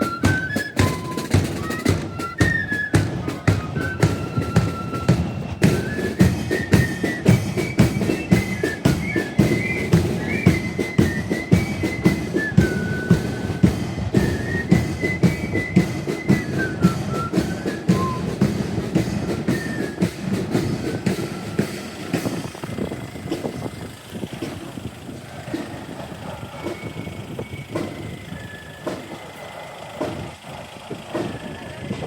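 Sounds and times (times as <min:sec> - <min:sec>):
high flute melody: 0:00.0 - 0:22.9, 0:25.5 - 0:30.2
steady drumbeat: 0:00.0 - 0:32.0.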